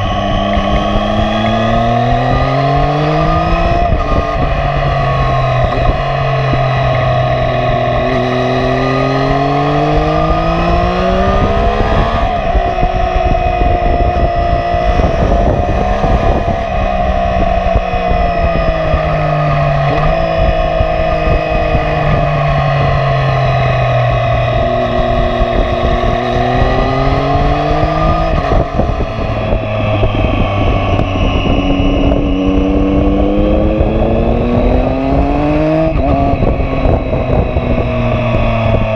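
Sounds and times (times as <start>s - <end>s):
loud motorcycle engine revving: 0.0s - 38.9s.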